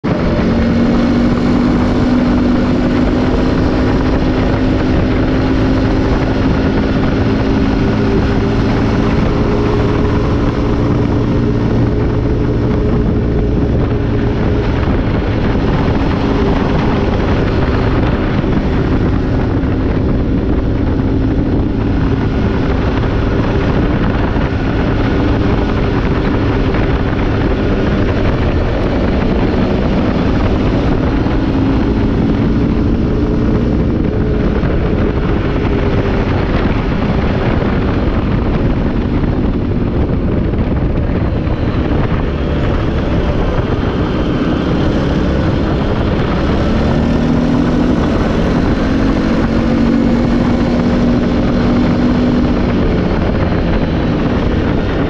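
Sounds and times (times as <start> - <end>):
buggy engine running: 0.0 - 55.0
road noise: 0.0 - 55.0
wind noise: 0.0 - 55.0.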